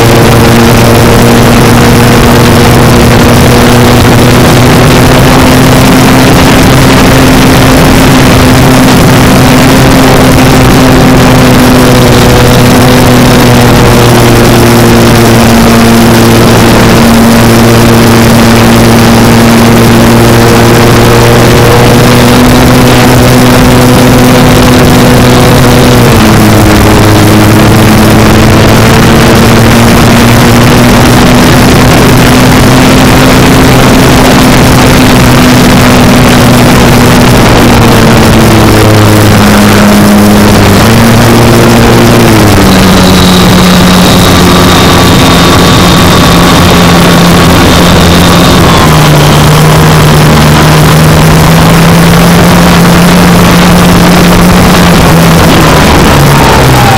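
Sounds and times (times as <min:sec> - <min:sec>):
model plane motor and propeller: 0:00.0 - 0:56.9.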